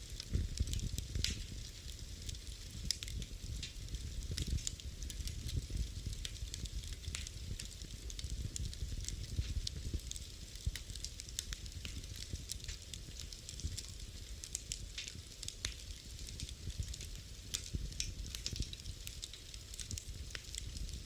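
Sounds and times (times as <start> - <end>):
fire crackling and popping: 0.0 - 21.0
wood fire rumbling: 0.0 - 21.0.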